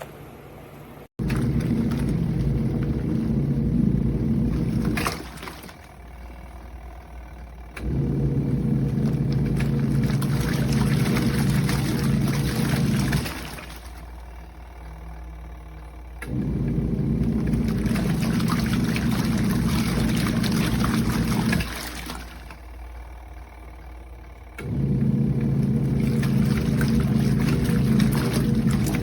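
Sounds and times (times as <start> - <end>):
washing machine churning water: 1.2 - 29.0.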